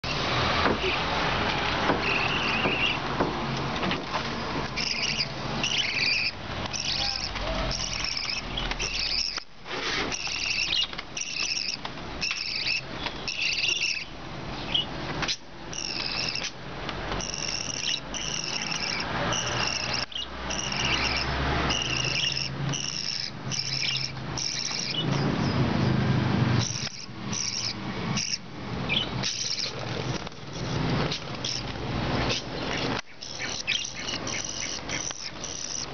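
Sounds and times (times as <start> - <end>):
budgerigars chirping: 2.0 - 3.0, 4.7 - 16.6, 17.2 - 25.7, 26.6 - 35.9.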